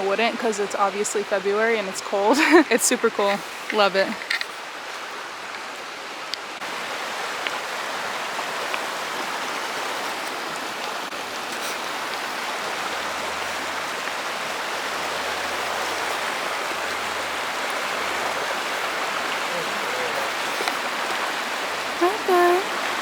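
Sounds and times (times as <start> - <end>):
creek water running over rock: 0.0 - 23.0.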